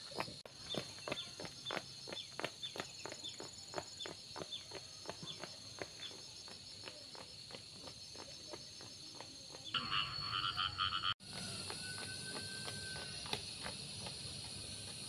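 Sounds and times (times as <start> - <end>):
running footsteps on concrete: 0.0 - 9.8, 11.2 - 15.0
insects trilling: 0.5 - 15.0.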